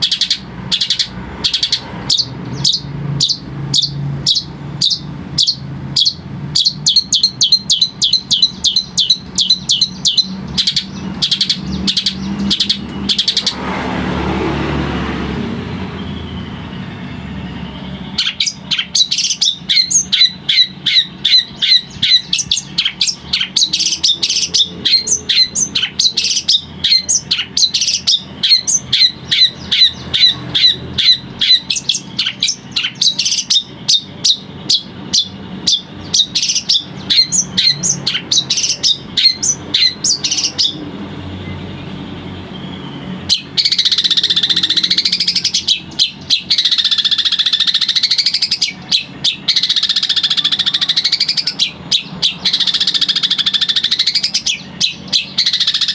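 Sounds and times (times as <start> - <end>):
bird chirping sharply: 0.0 - 55.9
buzzy bird trill: 0.0 - 55.9.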